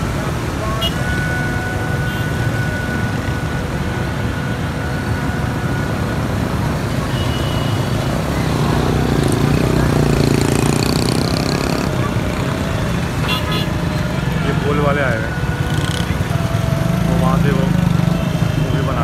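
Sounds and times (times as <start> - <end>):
road traffic din: 0.0 - 19.0
vehicle engine approaching: 2.5 - 19.0.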